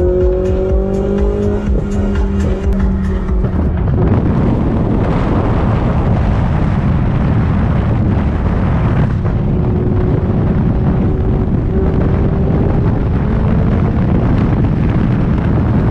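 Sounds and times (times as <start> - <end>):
car engine droning: 0.0 - 15.9
wind buffeting microphone: 0.0 - 15.9.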